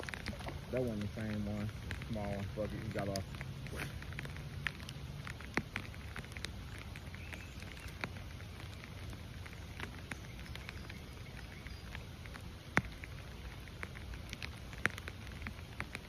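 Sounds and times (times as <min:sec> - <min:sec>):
low steady rumble: 0:00.0 - 0:15.8
rain drops tapping: 0:00.0 - 0:16.0.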